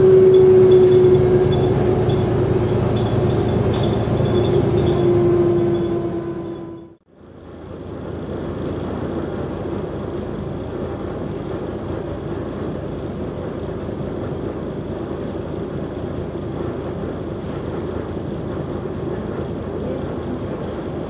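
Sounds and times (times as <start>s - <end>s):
bus diesel engine idling: 0.0s - 21.0s.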